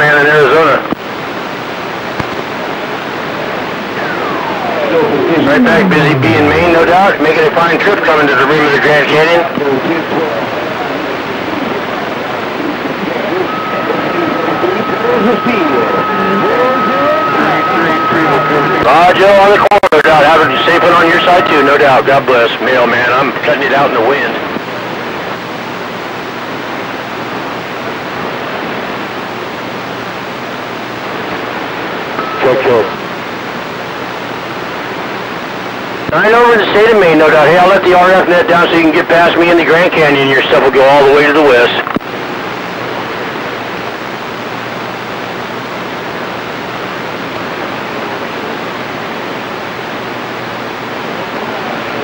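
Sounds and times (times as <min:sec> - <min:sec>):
radio static hiss: 0:00.0 - 0:52.0.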